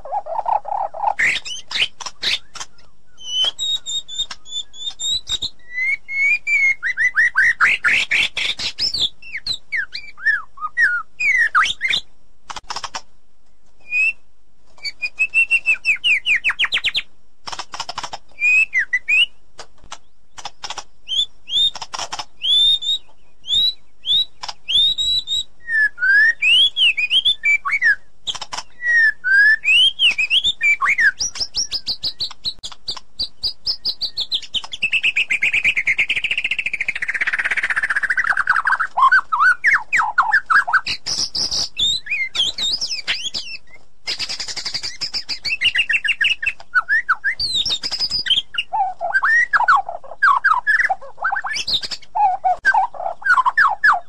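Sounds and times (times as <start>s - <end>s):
songbird singing whistled phrases: 0.1s - 12.1s, 13.8s - 14.2s, 14.8s - 17.1s, 18.4s - 19.4s, 20.4s - 54.0s.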